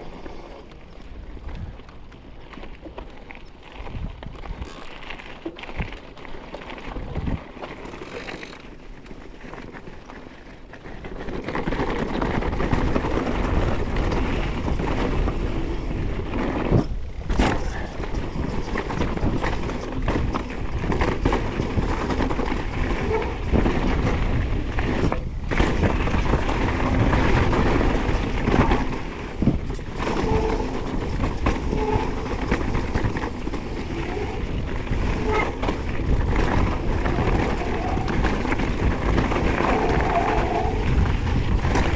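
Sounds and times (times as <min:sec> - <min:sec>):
wind and tyre noise: 0:00.0 - 0:41.9.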